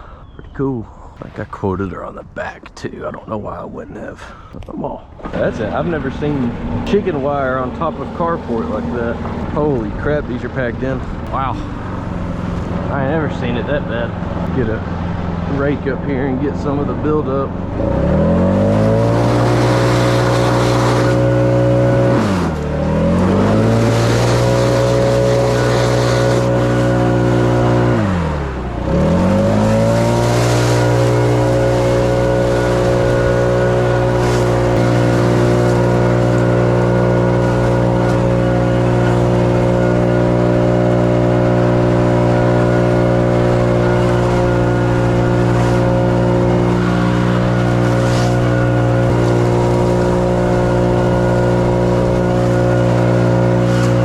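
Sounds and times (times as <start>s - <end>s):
leaf blower engine running: 5.2s - 54.0s.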